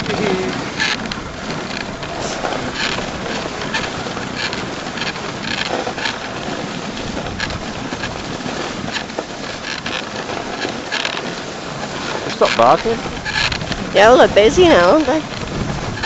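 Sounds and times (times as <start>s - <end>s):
sharp runner scrapes: 0.2s - 13.6s
sled runners hissing on snow: 1.4s - 16.0s.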